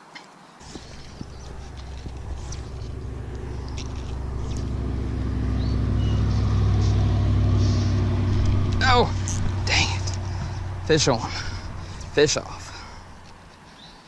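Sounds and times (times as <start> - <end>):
vehicle engine humming: 0.6 - 13.8.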